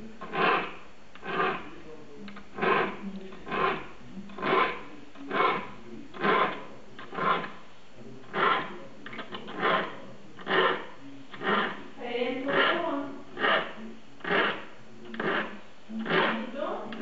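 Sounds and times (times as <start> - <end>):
file rasping on saw teeth: 0.2 - 7.6, 8.2 - 11.8, 12.4 - 17.0.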